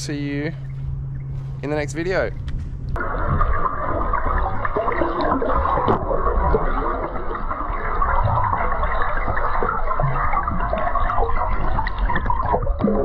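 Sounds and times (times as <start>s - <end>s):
muffled underwater rush and bubbling: 0.0s - 13.0s.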